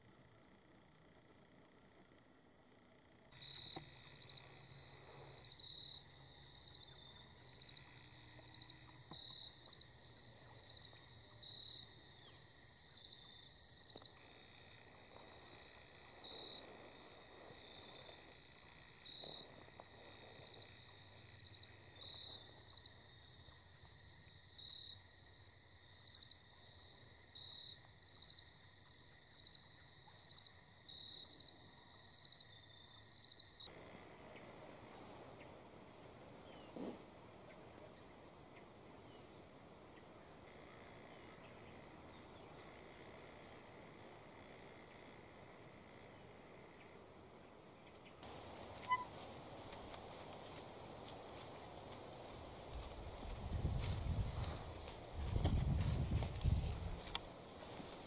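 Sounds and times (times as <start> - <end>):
insects chirping in pulsed bursts: 0.0 - 58.0.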